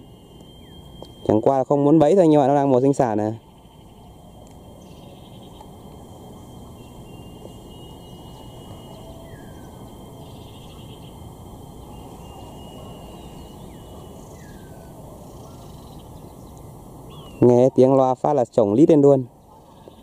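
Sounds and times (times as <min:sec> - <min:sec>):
high whistling tone: 0:00.0 - 0:17.8.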